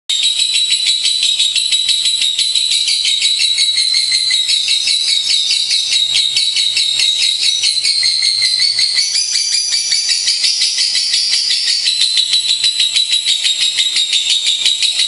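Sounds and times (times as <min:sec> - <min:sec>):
lovebirds chattering: 0:00.6 - 0:15.0.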